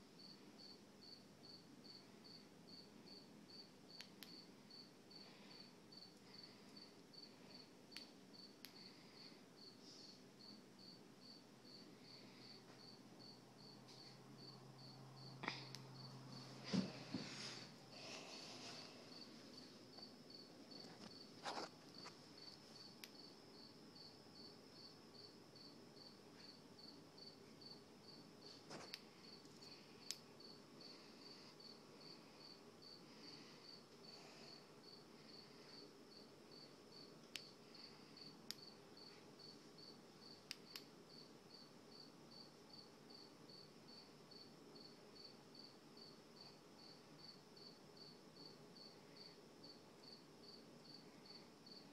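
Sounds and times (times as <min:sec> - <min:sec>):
cricket chirping: 0:00.1 - 0:17.2, 0:18.0 - 0:51.9.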